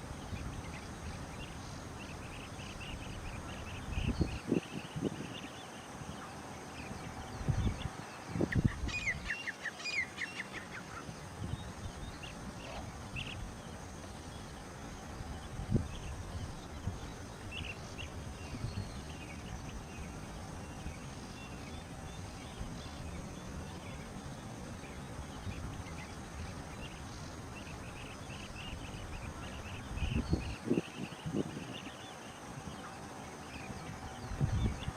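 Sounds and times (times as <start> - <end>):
small birds chirping: 0.0 - 34.9
steady outdoor hiss: 0.0 - 34.9.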